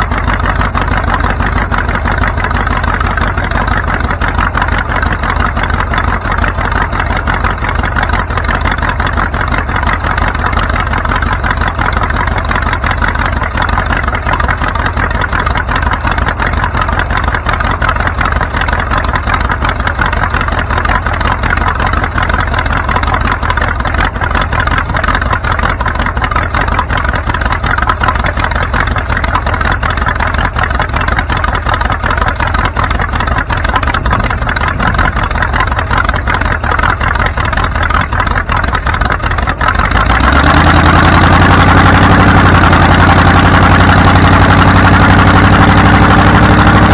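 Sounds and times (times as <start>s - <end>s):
vehicle engine and road noise: 0.0s - 46.9s.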